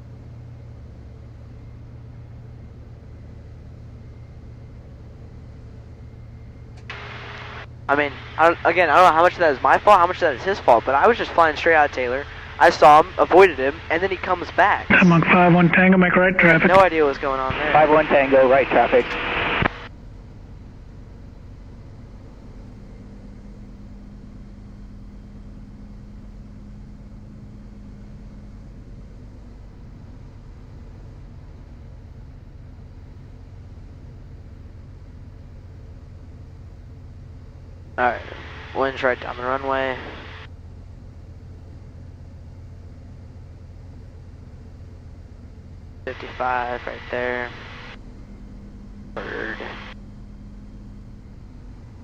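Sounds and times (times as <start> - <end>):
light aircraft engine drone: 0.0 - 52.0
steady low hum: 0.0 - 52.0.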